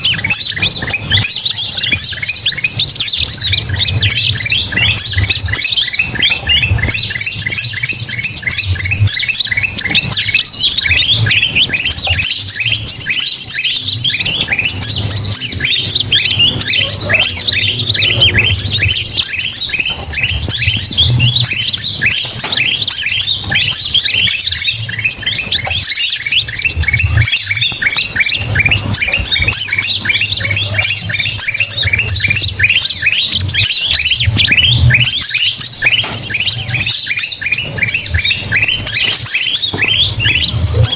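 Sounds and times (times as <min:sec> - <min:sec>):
bulbul calls: 0:00.0 - 0:40.9
small birds chirping and squawking: 0:00.0 - 0:40.9.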